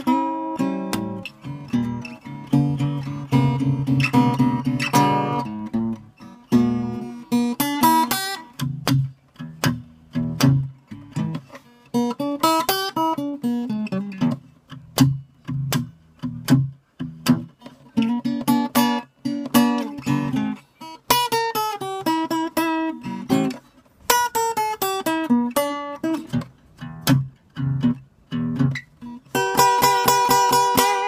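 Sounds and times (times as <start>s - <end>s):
fingerpicked acoustic guitar blues: 0.0s - 31.0s.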